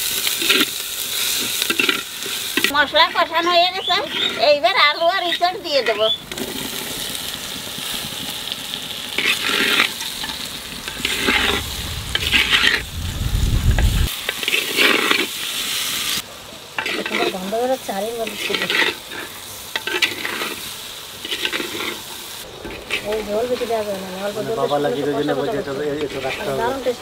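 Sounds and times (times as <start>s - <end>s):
food sizzling in a pot: 0.0s - 27.0s.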